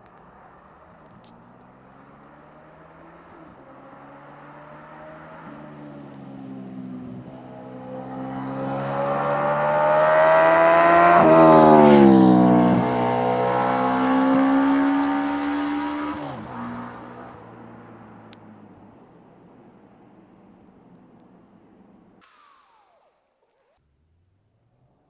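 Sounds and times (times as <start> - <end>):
motorcycle passing by: 0.2 - 23.0.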